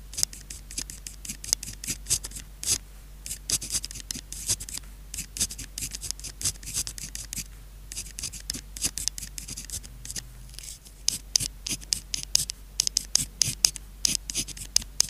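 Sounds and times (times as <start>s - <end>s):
pen scratching on paper: 0.0s - 15.0s.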